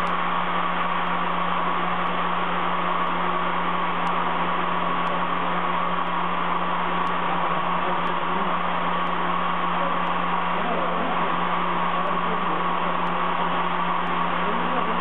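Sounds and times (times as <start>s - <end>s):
spindle hum: 0.0s - 15.0s.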